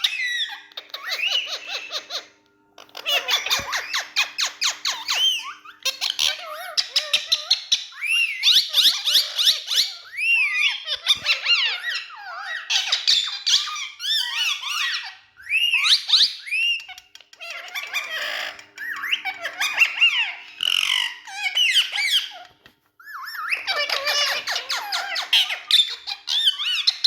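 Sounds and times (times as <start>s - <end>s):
parrot whistled calls: 0.0s - 27.0s.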